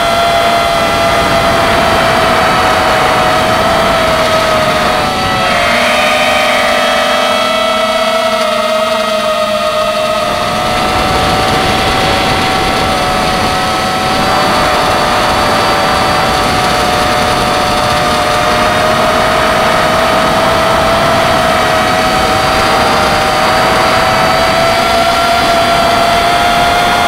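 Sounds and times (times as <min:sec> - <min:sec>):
drone motors whining: 0:00.0 - 0:27.0
rush of air noise: 0:00.0 - 0:27.0.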